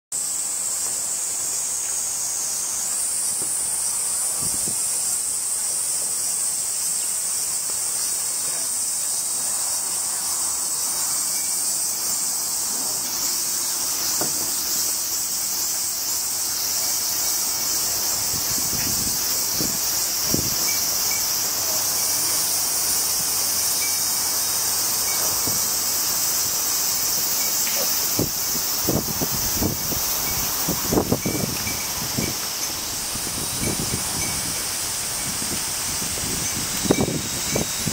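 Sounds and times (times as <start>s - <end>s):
shrill insect chorus: 0.1s - 37.9s.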